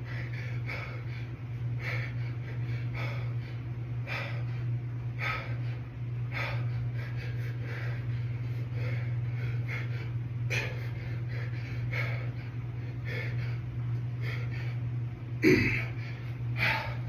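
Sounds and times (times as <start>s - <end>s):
man breathing forcefully: 0.0s - 17.0s
steady low hum: 0.0s - 17.0s.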